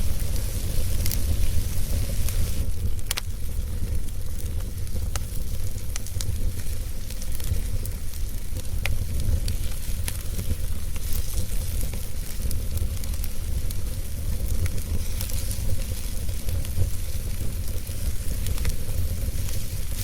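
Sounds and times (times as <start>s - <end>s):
low fire rumble and hiss: 0.0s - 20.0s
sharp fire pops: 0.0s - 20.0s
wood fire crackling: 0.0s - 20.0s.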